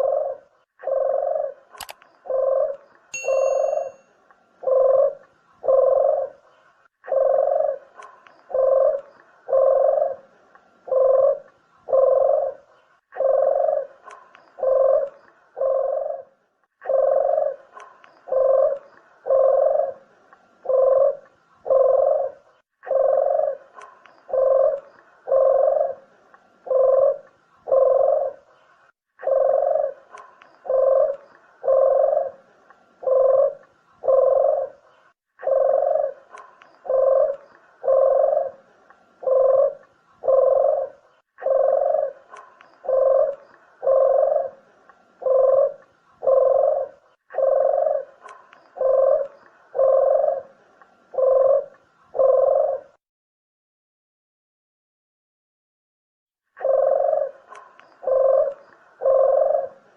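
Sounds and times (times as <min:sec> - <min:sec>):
dove cooing: 0:00.0 - 0:04.0, 0:04.6 - 0:28.6, 0:29.2 - 0:53.0, 0:56.6 - 0:59.9.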